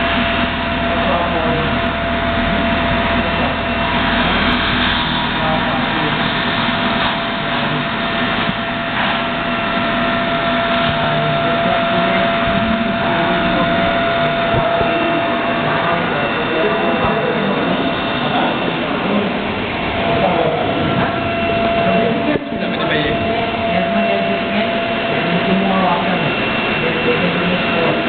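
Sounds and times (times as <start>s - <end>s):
low hum: 0.0s - 28.0s
milling machine whine: 0.0s - 28.0s.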